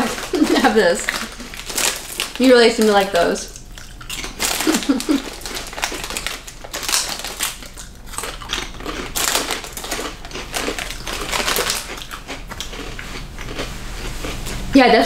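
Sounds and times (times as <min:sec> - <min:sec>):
foil snack bag crinkling: 0:00.0 - 0:14.6.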